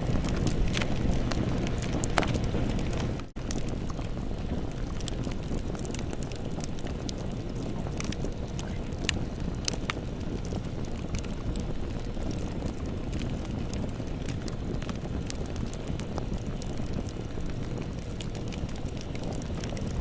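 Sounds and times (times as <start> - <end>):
crackles and pops of burning wood: 0.0 - 20.0
rumble of campfire flames: 0.0 - 20.0.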